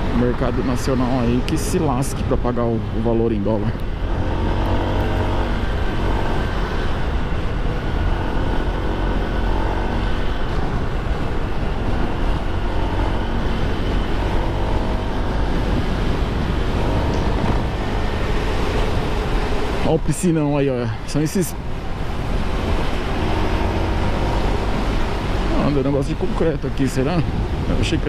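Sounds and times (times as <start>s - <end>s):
road noise rushing: 0.0s - 28.0s.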